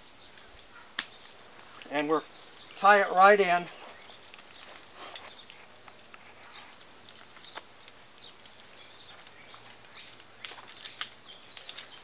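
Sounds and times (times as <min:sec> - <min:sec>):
rope and metal snaps clicking: 0:00.3 - 0:12.0.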